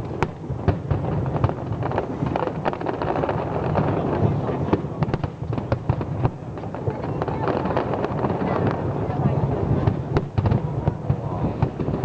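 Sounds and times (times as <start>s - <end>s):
fireworks crackling pops: 0.0s - 12.0s
low rumble of fireworks booms: 0.0s - 12.0s.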